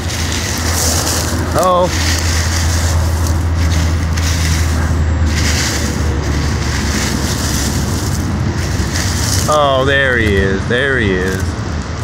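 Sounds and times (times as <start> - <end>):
crackly hiss: 0.0 - 12.0.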